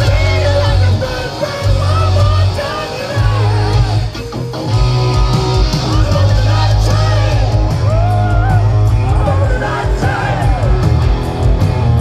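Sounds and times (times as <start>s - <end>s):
bending lead guitar line: 0.0s - 12.0s
hard rock band playing live: 0.0s - 12.0s.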